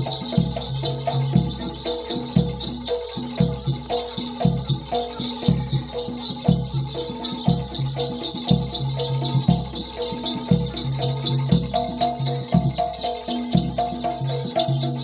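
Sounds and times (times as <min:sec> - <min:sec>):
high jingling rattle: 0:00.0 - 0:15.0
pitched percussion notes: 0:00.0 - 0:15.0.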